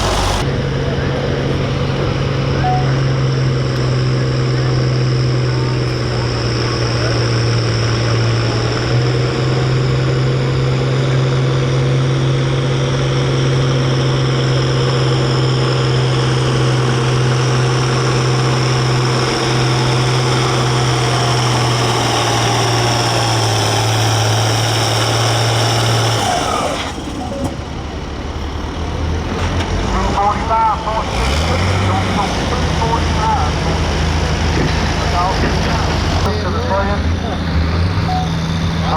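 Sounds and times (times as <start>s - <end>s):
diesel tractor engine at full throttle: 0.0s - 38.9s.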